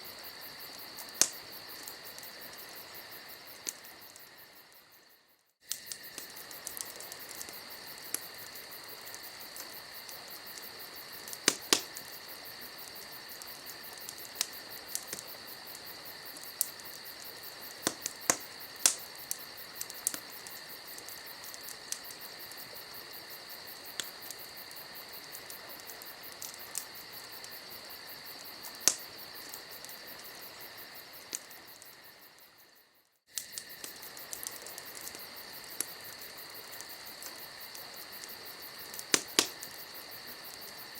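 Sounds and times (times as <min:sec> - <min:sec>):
campfire crackling and popping: 0:00.0 - 0:40.9
night insects chirring: 0:00.0 - 0:40.9.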